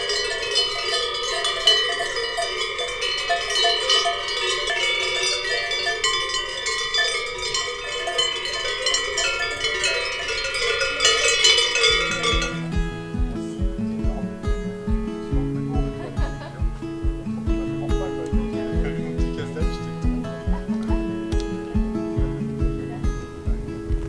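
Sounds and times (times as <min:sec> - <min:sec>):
cowbells clanking: 0:00.0 - 0:24.0.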